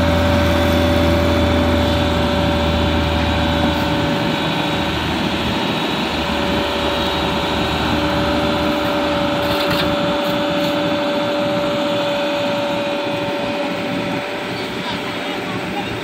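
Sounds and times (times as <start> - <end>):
engine running: 0.0 - 16.0
high whine: 0.0 - 16.0.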